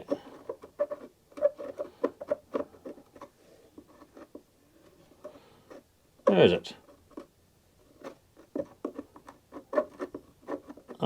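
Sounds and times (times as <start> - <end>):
screwdriver scraping a screw head: 0.0 - 4.4, 5.2 - 11.0.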